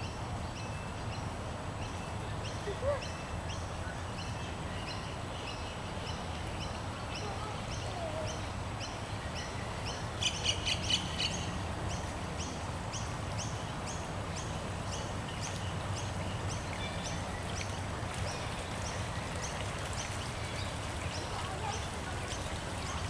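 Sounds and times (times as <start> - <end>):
river rushing: 1.3 - 23.0.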